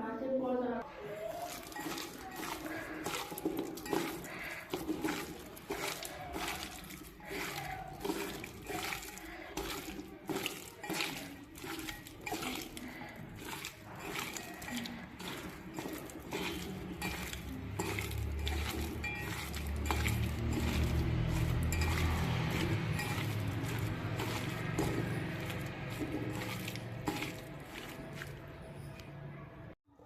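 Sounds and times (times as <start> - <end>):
water sloshing and splashing: 1.0 - 29.2
dishes and utensils clinking: 1.1 - 29.2.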